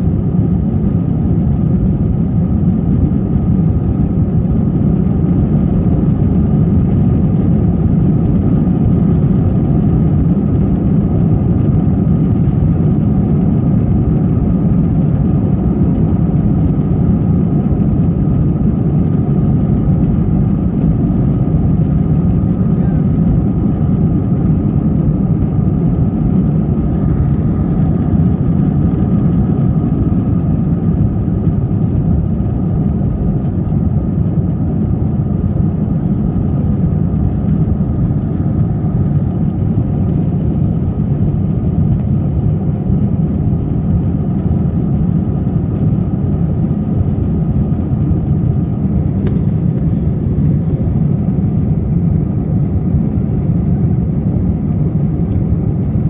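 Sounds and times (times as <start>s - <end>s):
faint steady engine whine: 0.0s - 56.0s
jet engines at takeoff thrust: 0.0s - 56.0s.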